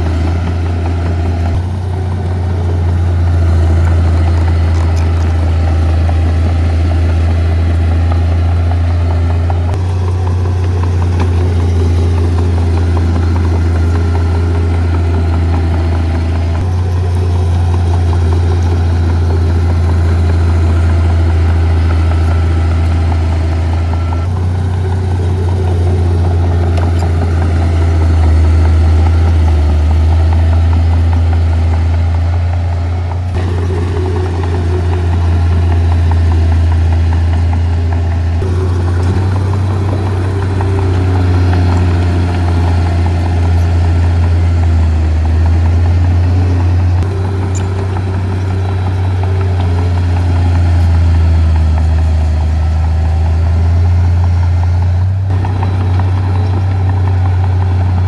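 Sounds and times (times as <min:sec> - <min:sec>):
heavy machine diesel engine humming: 0:00.0 - 0:58.0.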